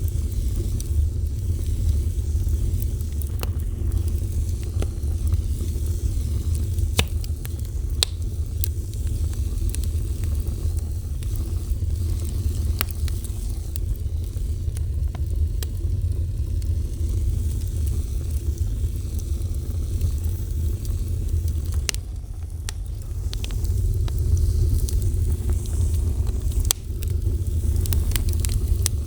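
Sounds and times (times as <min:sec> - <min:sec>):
fire crackles and pops: 0:00.0 - 0:29.0
wood fire rumble: 0:00.0 - 0:29.0.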